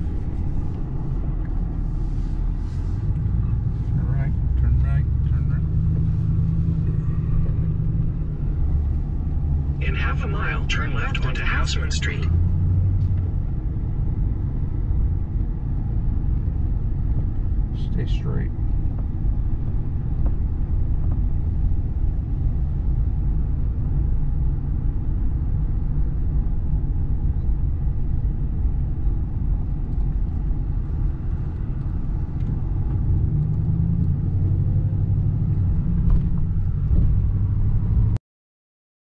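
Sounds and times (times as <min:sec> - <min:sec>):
road noise: 0:00.0 - 0:38.2
truck engine rumble: 0:00.0 - 0:38.2.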